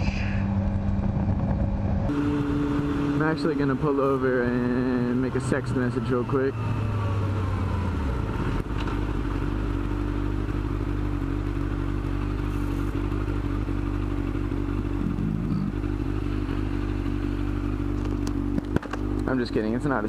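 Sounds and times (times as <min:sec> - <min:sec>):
motorcycle engine idling: 0:00.2 - 0:20.0.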